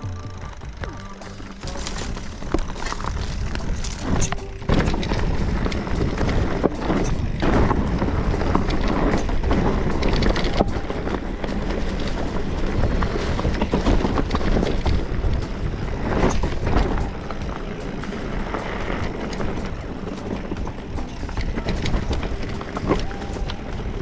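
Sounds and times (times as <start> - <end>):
bike knocks and rattles: 0.0 - 24.0
wind rumble on microphone: 0.0 - 24.0.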